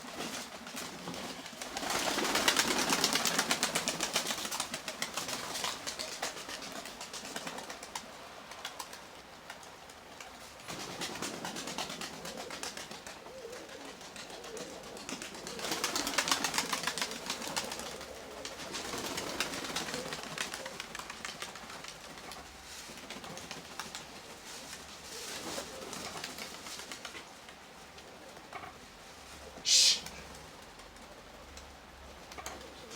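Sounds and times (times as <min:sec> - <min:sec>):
rain hiss and patter: 0:00.0 - 0:28.1
pigeons cooing softly: 0:00.0 - 0:32.9.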